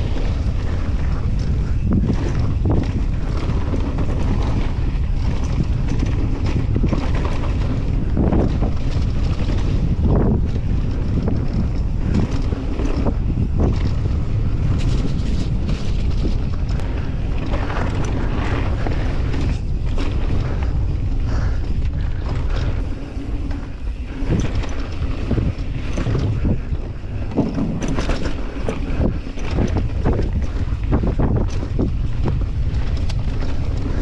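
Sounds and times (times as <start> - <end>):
bike knocks and rattles: 0.0 - 34.0
bike tyres on gravel: 0.0 - 34.0
wind buffeting microphone: 0.0 - 34.0.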